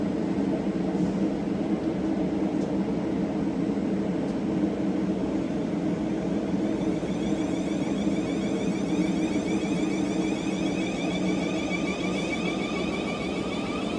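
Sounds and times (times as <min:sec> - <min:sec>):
electric train humming: 0:00.0 - 0:13.9
train traction whine: 0:00.0 - 0:13.9.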